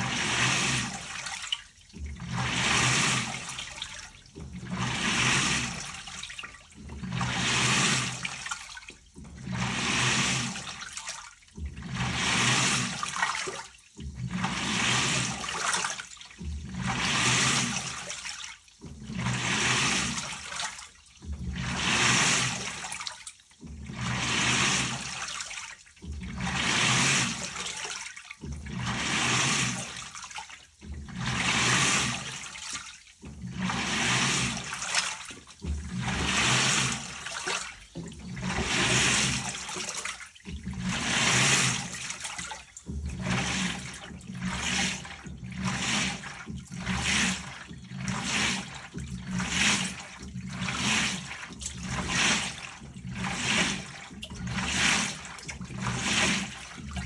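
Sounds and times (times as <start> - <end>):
washing machine water swishing: 0.0 - 57.0.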